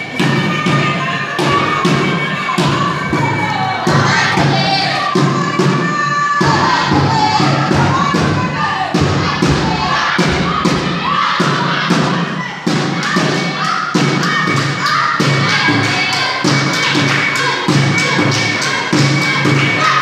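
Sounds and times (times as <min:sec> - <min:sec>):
group singing and shouting: 0:00.0 - 0:20.0
heavy drumming or stamping beat: 0:00.0 - 0:20.0.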